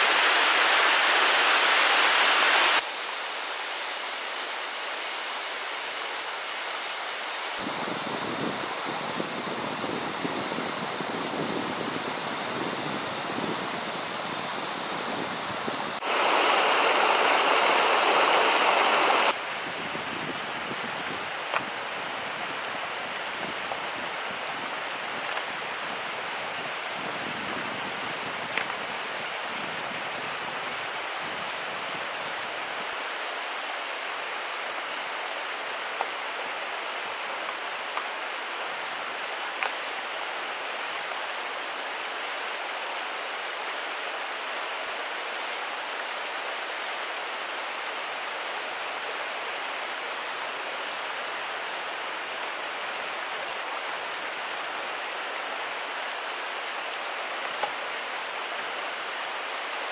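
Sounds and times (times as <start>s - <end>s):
stream pouring over rocks: 0.0s - 59.9s.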